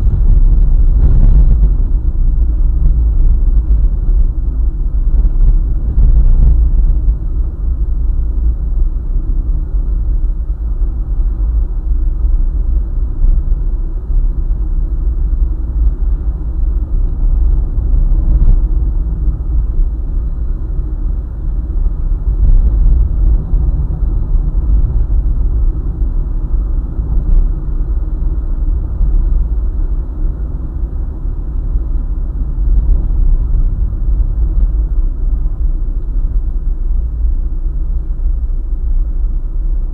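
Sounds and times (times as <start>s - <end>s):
car driving on highway: 0.0s - 39.9s.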